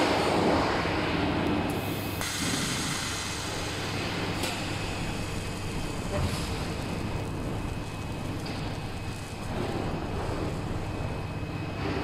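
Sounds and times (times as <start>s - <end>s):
factory machinery noise: 0.0s - 12.0s
welding arc hissing: 1.7s - 11.9s.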